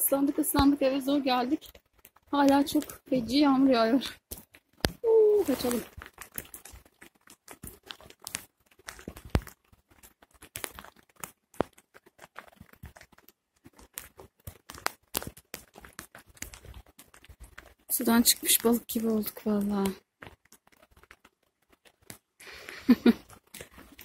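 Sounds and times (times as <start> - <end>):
heavy rain drops tapping: 0.0 - 24.0.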